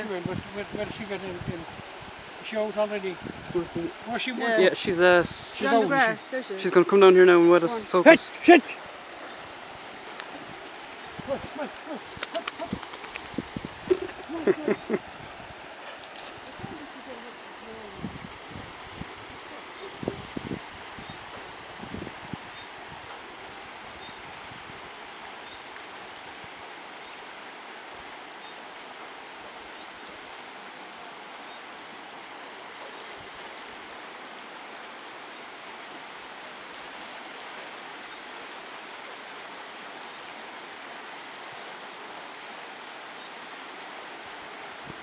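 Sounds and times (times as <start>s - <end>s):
river water over rapids: 0.0s - 45.0s.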